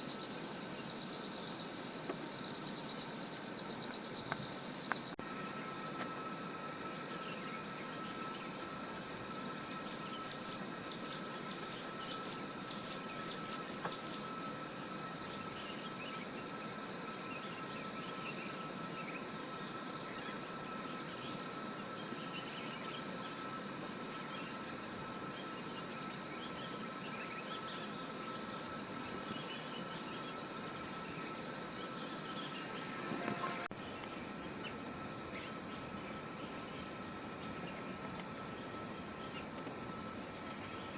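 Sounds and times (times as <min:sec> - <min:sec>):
faint bird chirps: 0:00.0 - 0:37.9
insects droning: 0:00.0 - 0:40.9.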